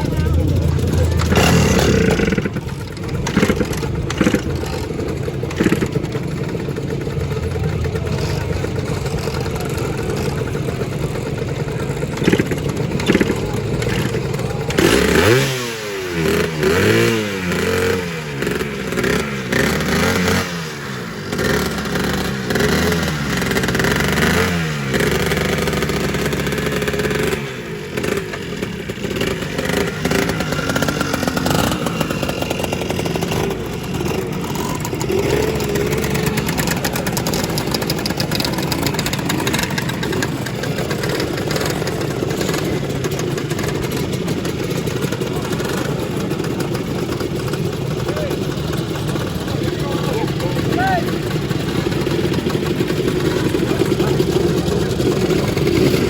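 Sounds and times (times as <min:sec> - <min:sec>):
scooter engine revving: 0:00.0 - 0:56.0
scooter engines idling: 0:00.0 - 0:56.0.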